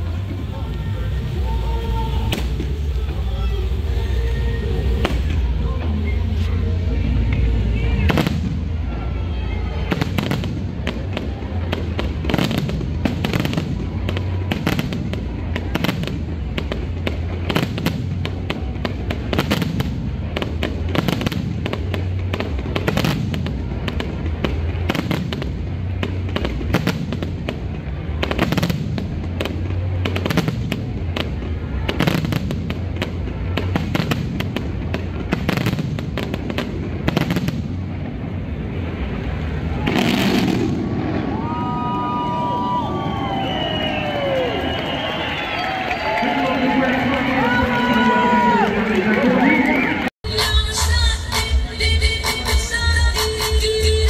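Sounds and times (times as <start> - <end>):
steady low rumble: 0.0 - 45.1
fireworks bangs: 0.0 - 50.7.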